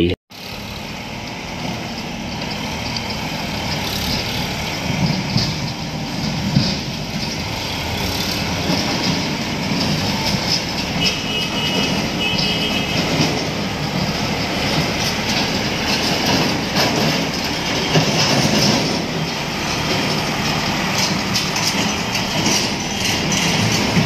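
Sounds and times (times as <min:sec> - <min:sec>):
diesel tractor engines rumbling: 0:00.0 - 0:24.0.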